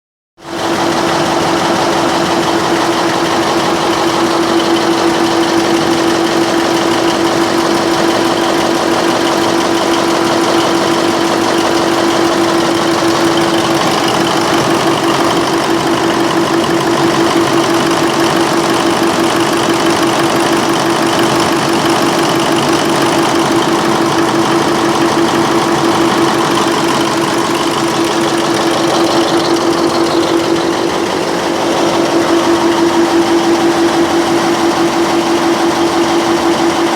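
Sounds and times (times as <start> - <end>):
diesel engine droning: 0.4 - 36.9.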